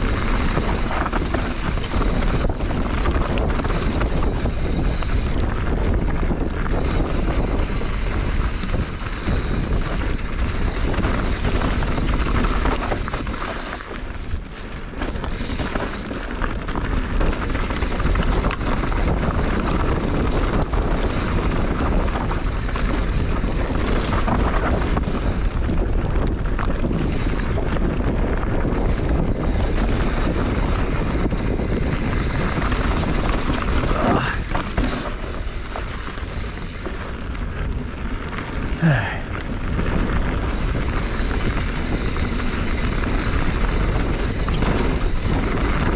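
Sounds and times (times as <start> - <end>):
mountain bike tyre and frame rattle: 0.0 - 45.9
wind on microphone: 0.0 - 45.9.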